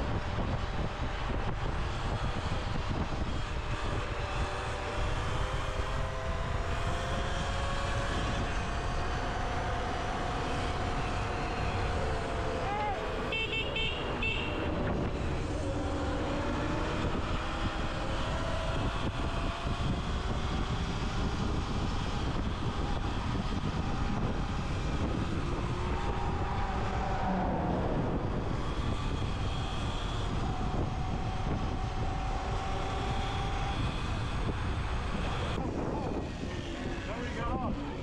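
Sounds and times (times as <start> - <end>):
wind on microphone: 0.0 - 13.3, 14.0 - 38.0.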